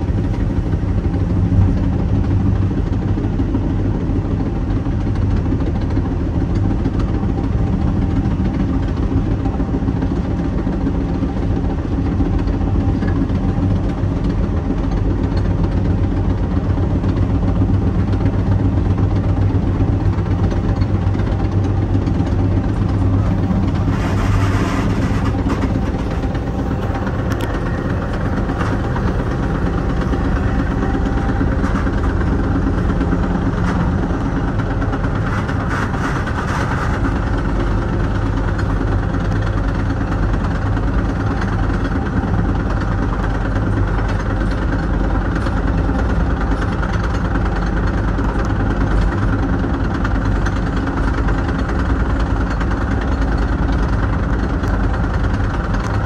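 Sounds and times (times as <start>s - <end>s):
train rumbling and hissing on track: 0.0s - 56.0s.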